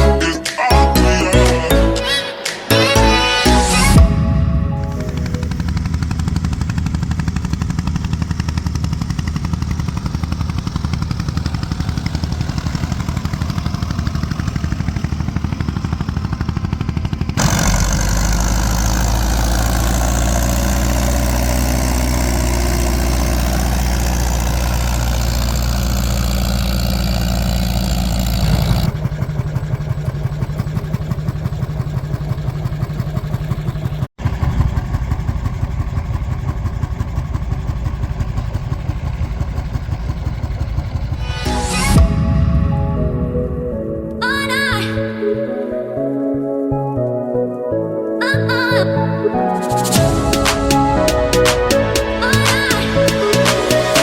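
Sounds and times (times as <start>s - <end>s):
old tractor engines running: 2.8s - 42.2s, 49.6s - 54.0s.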